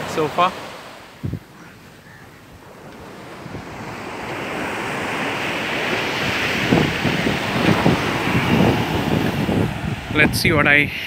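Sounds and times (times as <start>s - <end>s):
sea surf breaking on beach: 0.0s - 1.3s, 2.6s - 11.0s
wind buffeting microphone: 1.2s - 1.8s, 2.4s - 11.0s.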